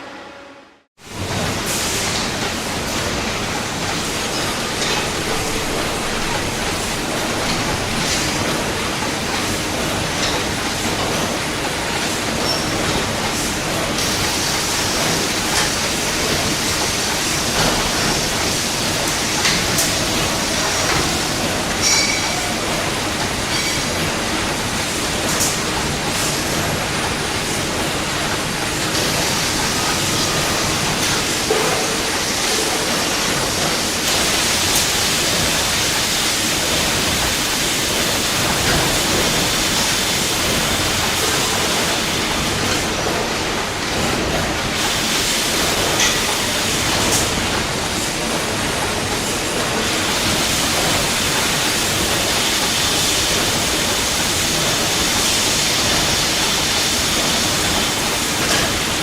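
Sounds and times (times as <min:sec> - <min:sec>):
factory machinery noise: 0:00.0 - 0:59.0.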